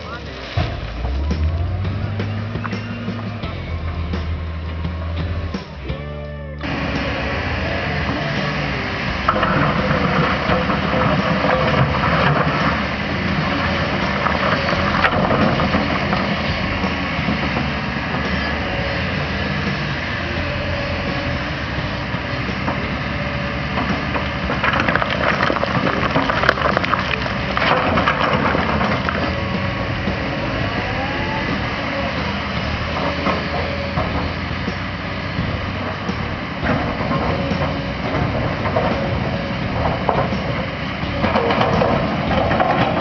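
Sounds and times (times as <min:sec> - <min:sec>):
crunching of soil and debris: 0:00.0 - 0:43.0
diesel engine under load: 0:00.0 - 0:43.0.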